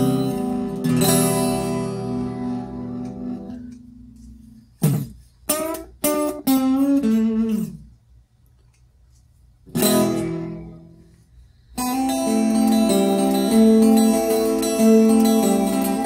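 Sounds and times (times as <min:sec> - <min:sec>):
guitar with reverb: 0:00.0 - 0:07.9, 0:09.7 - 0:16.0.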